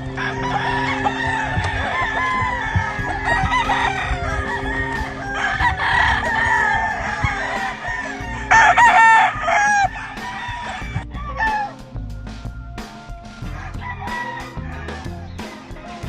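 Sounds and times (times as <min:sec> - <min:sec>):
roosters crowing and clucking: 0:00.0 - 0:16.0.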